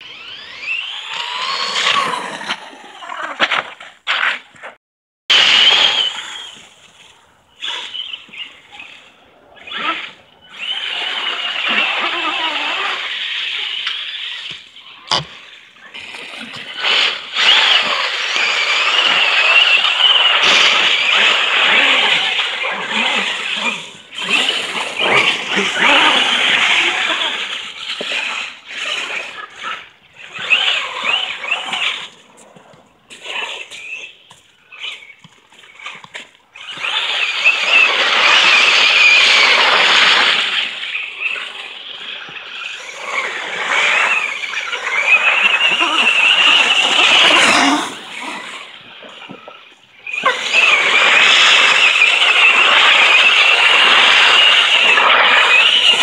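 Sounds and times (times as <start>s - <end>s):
electric motor whining: 0.0s - 3.4s, 9.6s - 32.7s, 33.3s - 56.0s
tyres churning slush: 5.3s - 56.0s.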